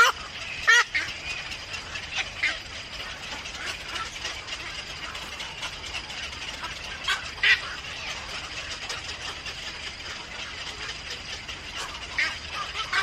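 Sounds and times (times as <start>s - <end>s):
bird chirps: 0.0s - 13.0s
steady background hiss: 0.0s - 13.0s.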